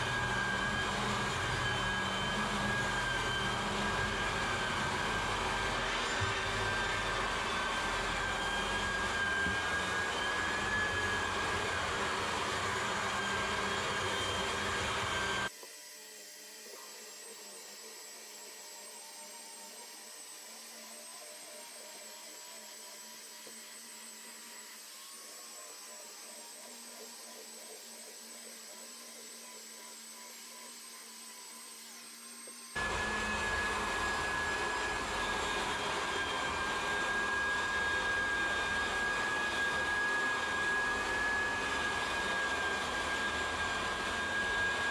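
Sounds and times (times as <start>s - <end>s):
floor sander whining: 0.0s - 44.9s.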